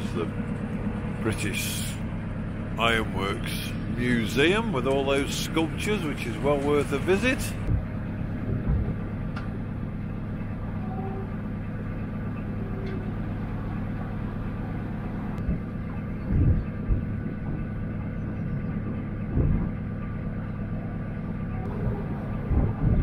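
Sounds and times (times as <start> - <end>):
diesel boat engine droning: 0.0 - 23.0
low rumbles: 0.0 - 23.0.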